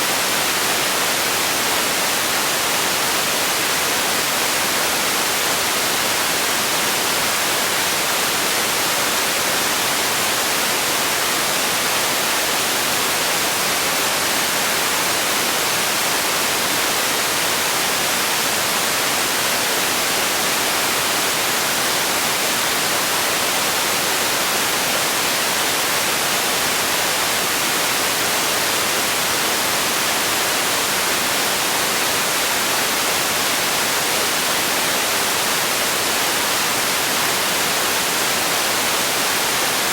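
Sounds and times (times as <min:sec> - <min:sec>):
steady hiss of sleep noise: 0:00.0 - 0:39.9.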